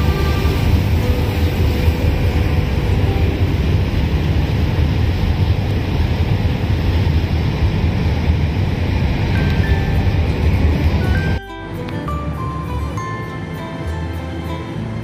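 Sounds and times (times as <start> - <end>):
ship low rumble: 0.0 - 15.0
water rushing along hull: 0.0 - 15.0.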